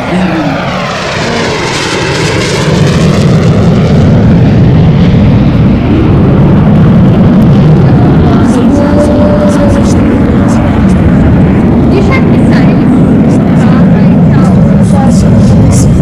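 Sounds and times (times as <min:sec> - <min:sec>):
jet engine roar passing: 0:00.0 - 0:16.0.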